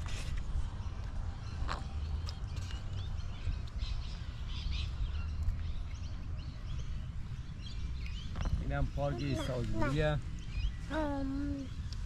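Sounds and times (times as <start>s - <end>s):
birds chirping: 0.4s - 12.0s.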